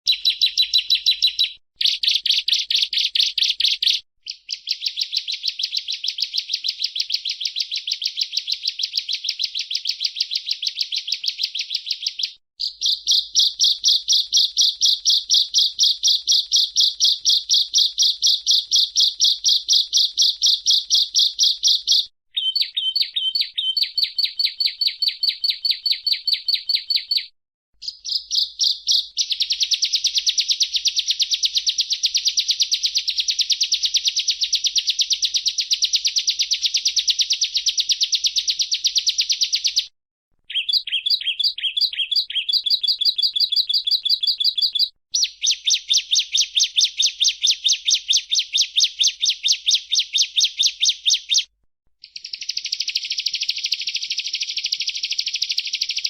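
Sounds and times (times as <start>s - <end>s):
bird singing fast trills: 0.1s - 39.9s, 40.5s - 51.5s, 52.1s - 56.0s.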